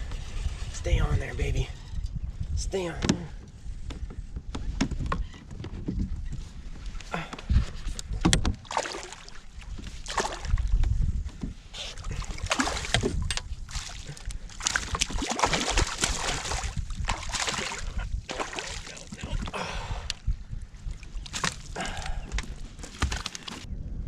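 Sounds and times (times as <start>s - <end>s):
water splashing and sloshing: 1.8s - 23.7s.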